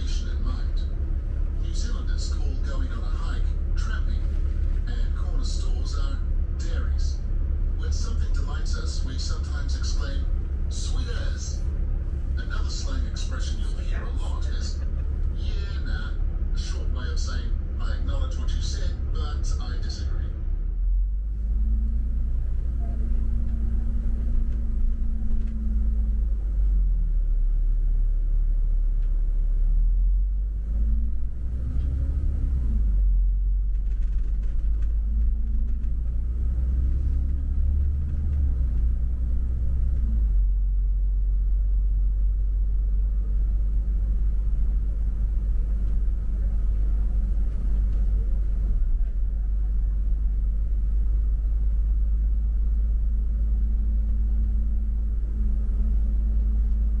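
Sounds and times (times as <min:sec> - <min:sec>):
bus engine rumbling: 0:00.0 - 0:57.0
low whine of drivetrain: 0:00.0 - 0:57.0.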